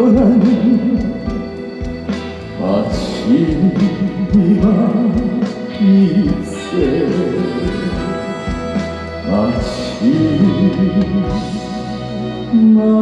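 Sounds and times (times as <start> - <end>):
man singing: 0.0 - 1.8, 2.4 - 13.0
band accompaniment: 0.0 - 13.0
steady drum beat: 0.0 - 13.0.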